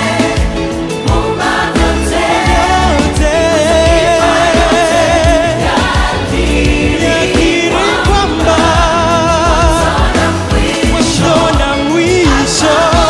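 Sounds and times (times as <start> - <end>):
choir and lead singers: 0.0 - 13.0
keyboards: 0.0 - 13.0
steady beat: 0.0 - 13.0.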